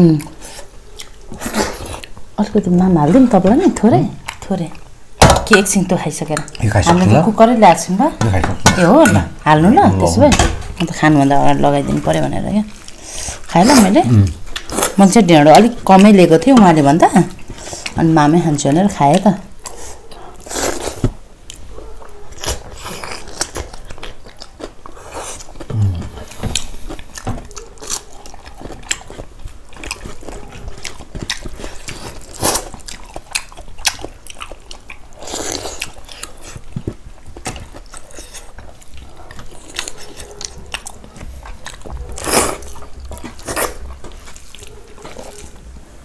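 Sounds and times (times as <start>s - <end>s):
chewing and biting food: 0.0s - 2.3s, 3.2s - 4.9s, 8.2s - 18.0s, 18.6s - 45.8s.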